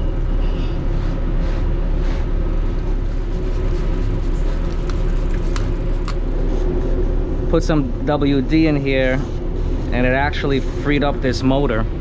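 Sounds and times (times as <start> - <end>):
low machine hum and rumble: 0.0 - 12.0.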